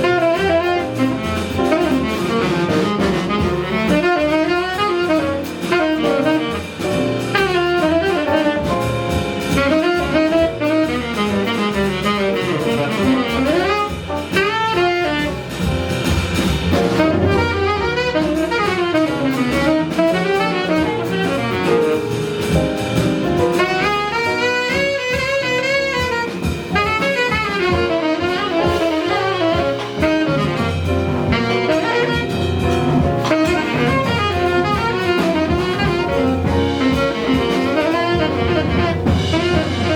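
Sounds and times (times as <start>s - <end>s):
double bass: 0.0s - 39.9s
drum kit: 0.0s - 39.9s
piano: 0.0s - 39.9s
saxophone lead: 0.0s - 39.9s.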